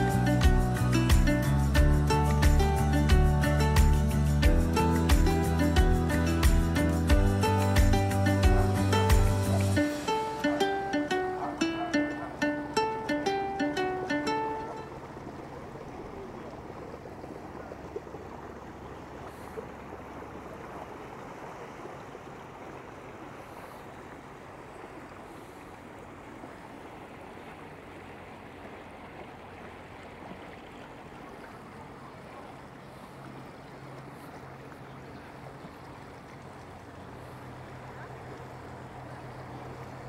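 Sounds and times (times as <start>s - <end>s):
motor boat engine humming: 0.0s - 40.0s
water washing: 0.0s - 40.0s.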